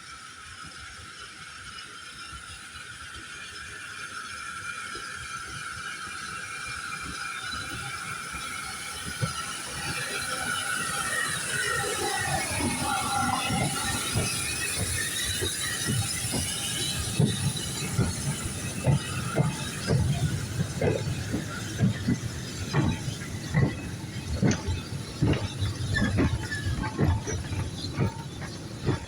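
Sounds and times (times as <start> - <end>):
steam hissing: 0.2 - 29.0
train wheels knocking over rail joints: 5.6 - 29.0.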